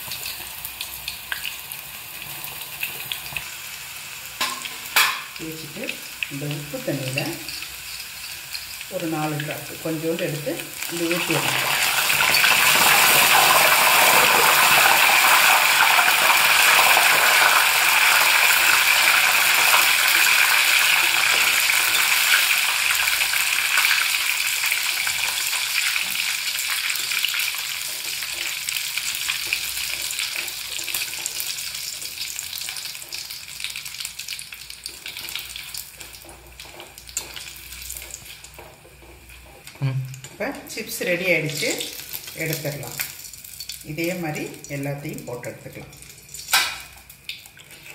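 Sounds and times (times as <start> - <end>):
banana slices sizzling in hot oil: 0.0 - 47.9.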